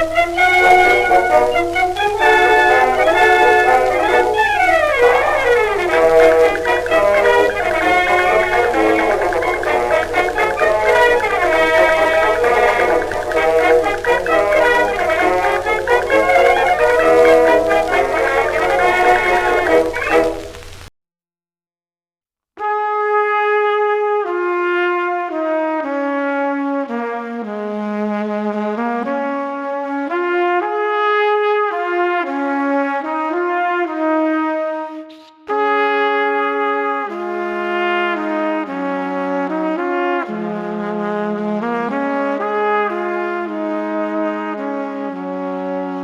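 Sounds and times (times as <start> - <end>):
brass melody: 0.0 - 20.9, 22.6 - 46.0.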